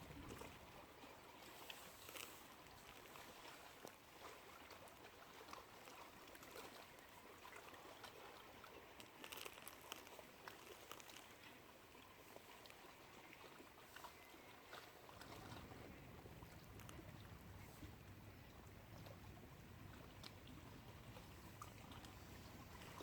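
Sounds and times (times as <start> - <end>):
small clicks and splashes: 0.0 - 23.0
water lapping and trickling: 0.0 - 23.0.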